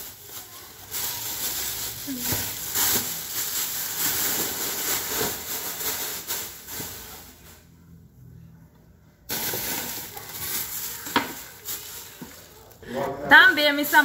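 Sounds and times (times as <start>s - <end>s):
plastic bag rustling: 0.0s - 7.7s, 9.3s - 14.0s.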